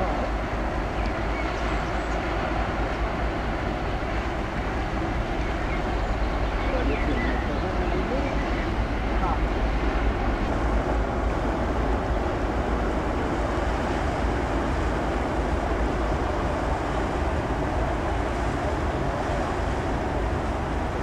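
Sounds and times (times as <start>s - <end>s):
large ferry rumbling: 0.0s - 21.0s
wind buffeting microphone: 0.0s - 21.0s.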